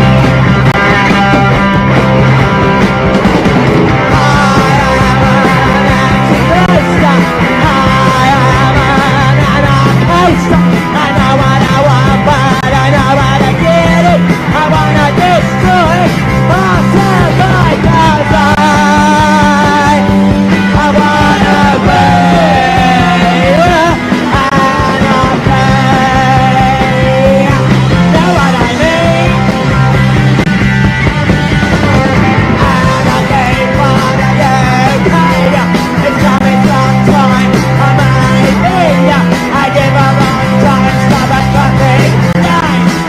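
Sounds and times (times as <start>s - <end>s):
distorted electric guitars: 0.0s - 43.0s
driving bass line: 0.0s - 43.0s
drums: 0.0s - 43.0s.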